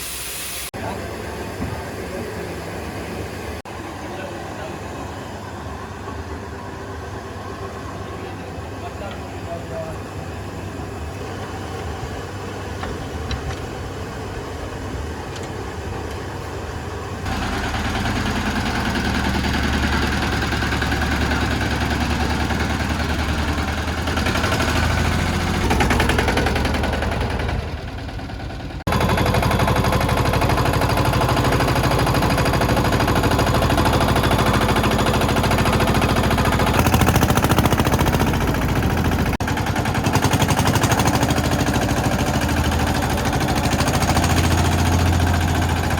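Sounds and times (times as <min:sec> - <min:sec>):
tractor engine running: 0:00.8 - 0:45.9.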